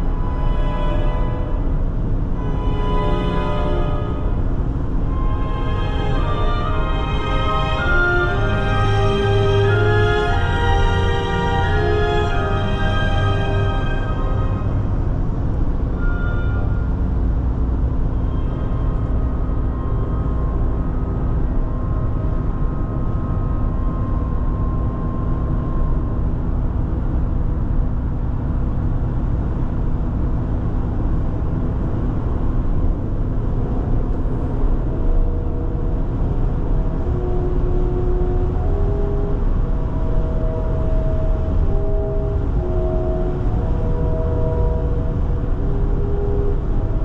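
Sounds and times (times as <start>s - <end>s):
soft music with long notes: 0.0s - 47.0s.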